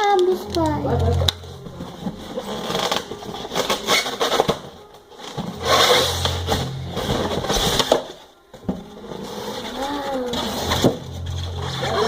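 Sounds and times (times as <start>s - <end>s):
packaging crackling and rustling: 0.0s - 12.0s.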